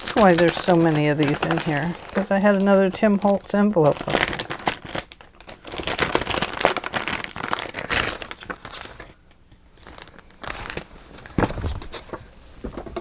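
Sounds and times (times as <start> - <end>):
paper crinkling and rustling: 0.0 - 12.8.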